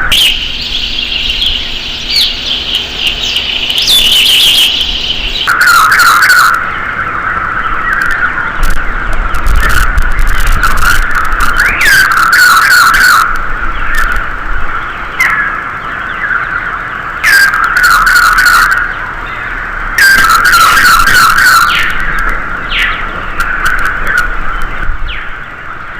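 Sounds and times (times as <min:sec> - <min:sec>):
birds chirping chorus: 0:00.0 - 0:25.9
dense bird calling: 0:00.0 - 0:25.9.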